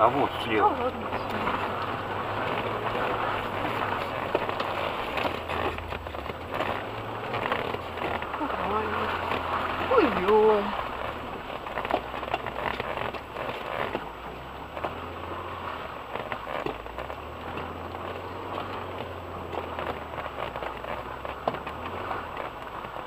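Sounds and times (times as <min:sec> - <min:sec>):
low engine hum: 0:00.0 - 0:23.0
tyres churning through mud: 0:00.0 - 0:23.0.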